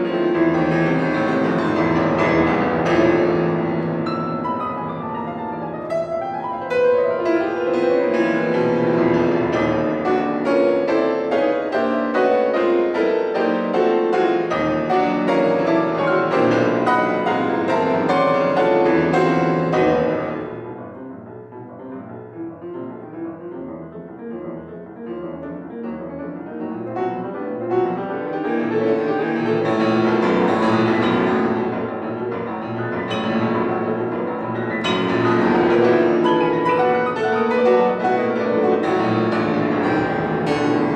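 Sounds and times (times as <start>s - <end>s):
classical piano music: 0.0s - 40.9s.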